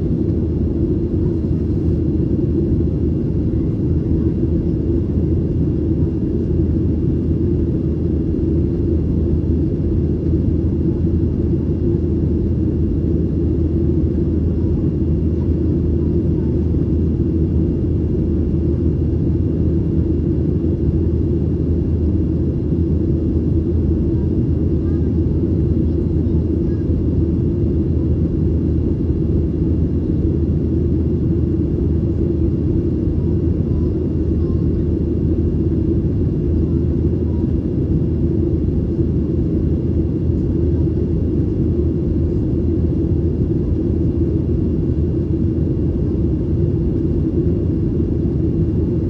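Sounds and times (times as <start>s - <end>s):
airplane cabin drone: 0.0s - 49.0s.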